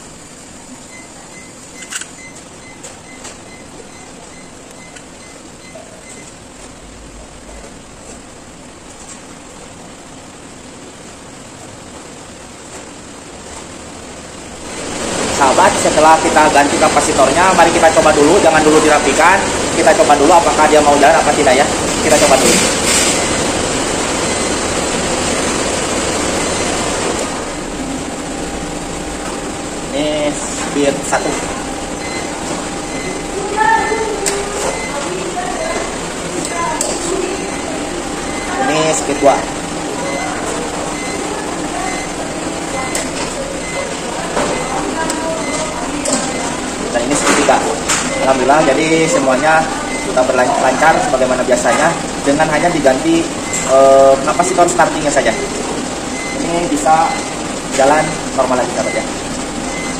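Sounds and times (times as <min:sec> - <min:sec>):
steady background noise: 0:00.0 - 0:59.9.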